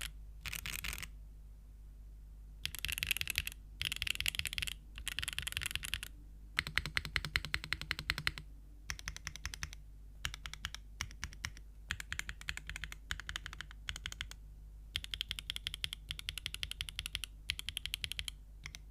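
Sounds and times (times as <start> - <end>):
mechanical keyboard typing: 0.0 - 1.1, 2.6 - 14.4, 15.0 - 18.9.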